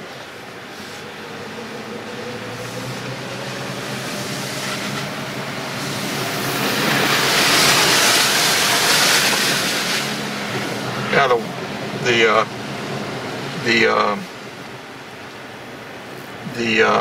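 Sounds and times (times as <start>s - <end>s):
water rushing and splashing: 0.0s - 17.0s.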